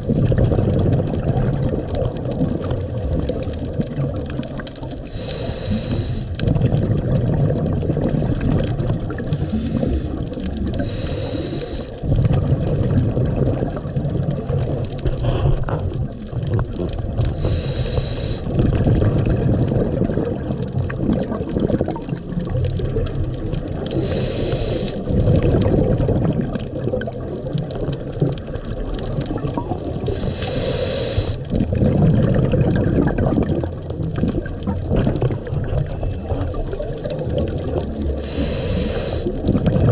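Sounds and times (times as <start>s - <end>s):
regulator bubble bursts: 0.0s - 11.4s, 12.0s - 39.9s
underwater water rumble: 0.0s - 39.9s.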